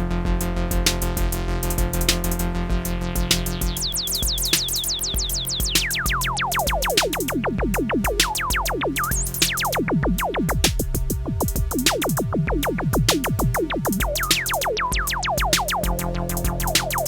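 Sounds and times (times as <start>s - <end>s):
drum machine beat: 0.0s - 17.0s
synth bass: 0.0s - 17.0s
falling synthesizer sweeps: 3.3s - 17.0s.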